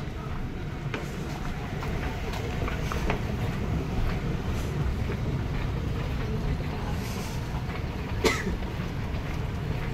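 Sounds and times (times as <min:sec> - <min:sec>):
moving walkway rumble: 0:00.0 - 0:09.9.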